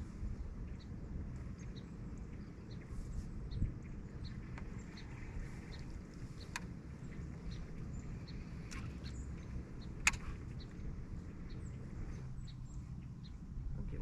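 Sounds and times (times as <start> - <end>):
low boat hum: 0.0 - 14.0.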